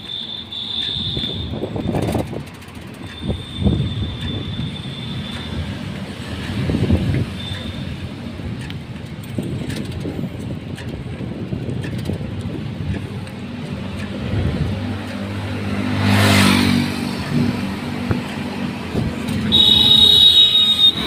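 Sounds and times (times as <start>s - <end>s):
vehicle road and engine noise: 0.0s - 21.0s.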